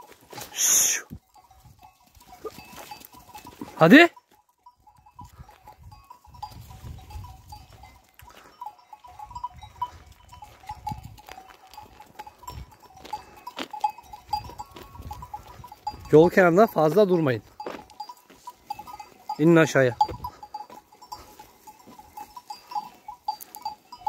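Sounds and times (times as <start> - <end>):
sheep bells tinkling: 0.0 - 24.0.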